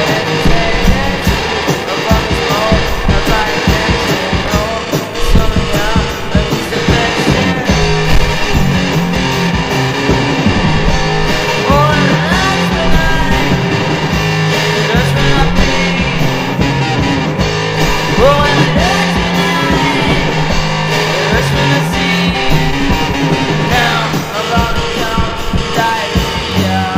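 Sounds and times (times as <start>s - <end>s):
bass line: 0.0s - 26.9s
drums: 0.0s - 26.9s
rock music with guitar: 0.0s - 26.9s.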